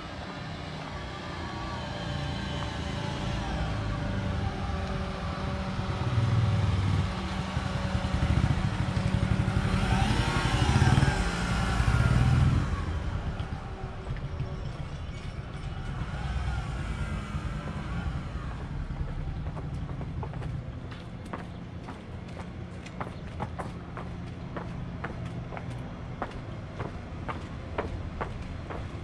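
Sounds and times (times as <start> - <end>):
motor engine rumbling: 0.0 - 29.0.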